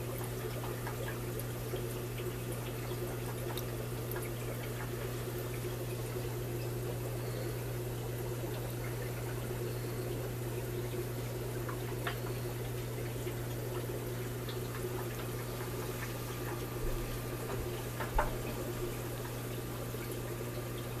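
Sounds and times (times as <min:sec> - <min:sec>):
aquarium filter humming: 0:00.0 - 0:21.0
water trickling and splashing: 0:00.0 - 0:21.0.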